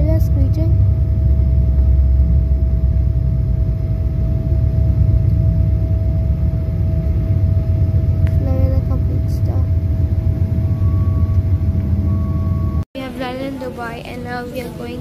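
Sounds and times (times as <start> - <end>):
constant whine: 0.0 - 15.0
jet engine low rumble: 0.0 - 15.0.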